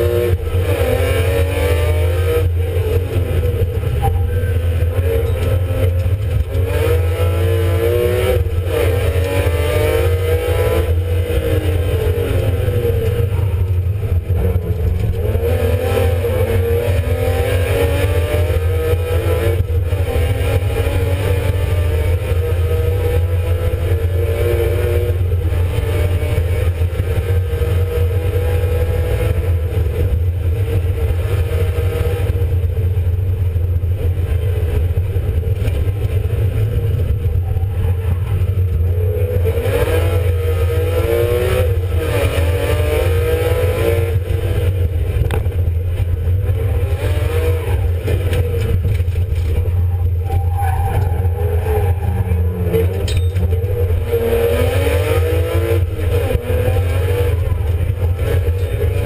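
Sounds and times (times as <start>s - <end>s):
car engine revving hard: 0.0s - 33.4s, 34.0s - 59.0s
constant low rumble: 0.0s - 59.0s.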